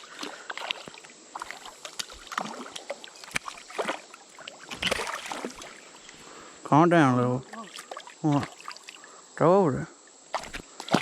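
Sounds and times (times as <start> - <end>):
creek water splashing: 0.0 - 9.2, 10.2 - 11.0.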